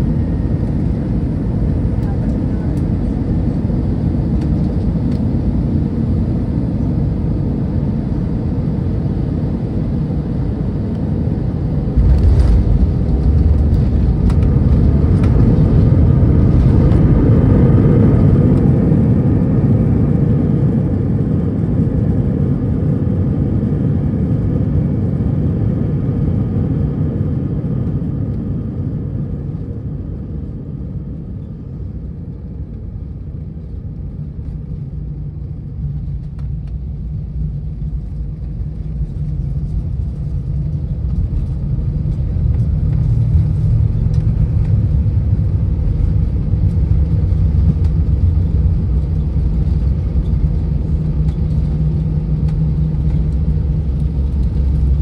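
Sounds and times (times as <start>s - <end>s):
landing gear rumble on runway: 0.0s - 24.6s, 31.3s - 55.0s
jet engines and airflow rushing: 0.0s - 55.0s.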